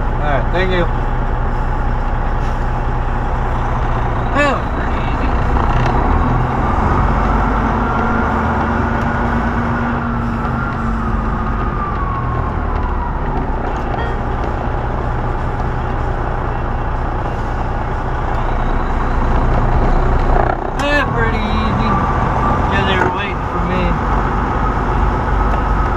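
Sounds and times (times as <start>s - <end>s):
diesel truck engine running: 0.0s - 25.9s.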